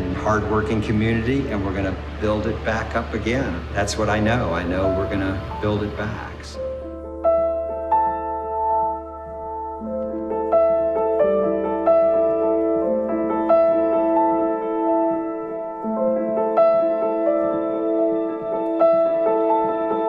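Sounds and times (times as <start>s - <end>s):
soft piano melody: 0.0s - 20.0s.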